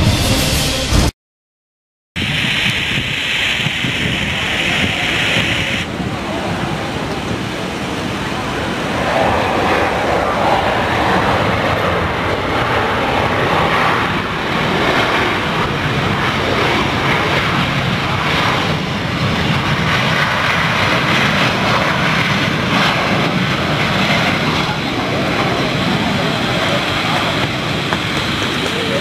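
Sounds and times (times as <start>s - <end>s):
jet engines roaring: 2.2s - 29.0s.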